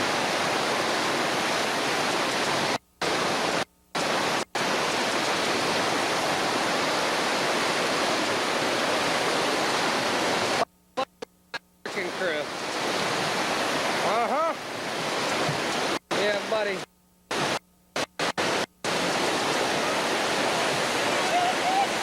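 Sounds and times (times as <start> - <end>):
rapids roaring: 0.0 - 11.2, 11.9 - 22.0.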